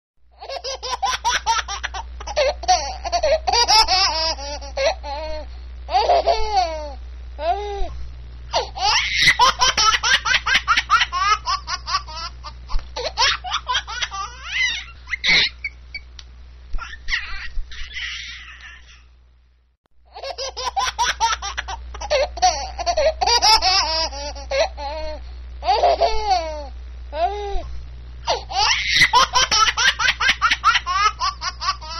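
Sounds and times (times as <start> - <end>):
baby laughing: 0.4 - 7.8, 8.6 - 15.7, 16.8 - 19.1, 20.1 - 27.4, 28.3 - 31.9.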